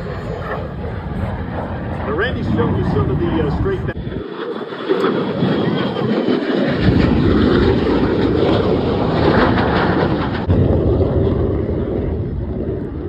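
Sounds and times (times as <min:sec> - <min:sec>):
jet fighter passing low: 0:00.0 - 0:13.0.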